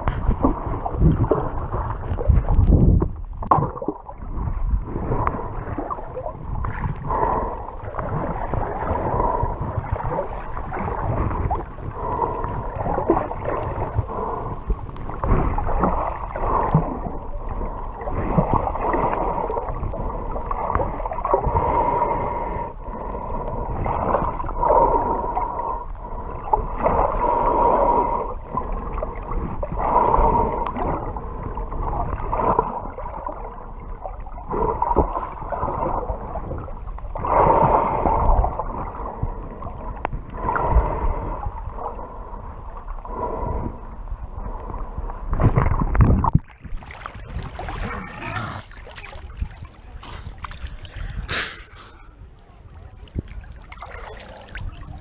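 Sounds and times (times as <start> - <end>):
underwater water sloshing: 0.0 - 55.0.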